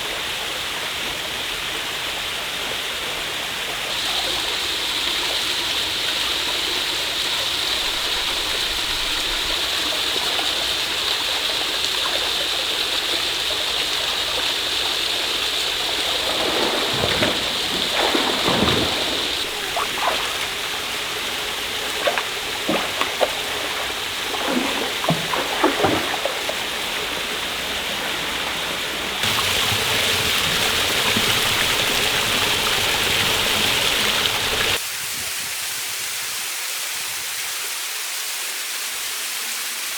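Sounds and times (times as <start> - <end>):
rushing water: 0.0 - 34.8.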